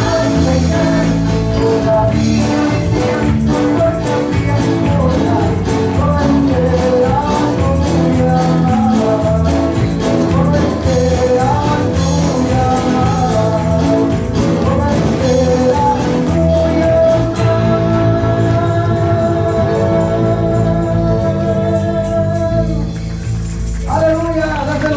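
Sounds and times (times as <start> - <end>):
gospel band playing: 0.0 - 24.9
man singing: 0.0 - 24.9.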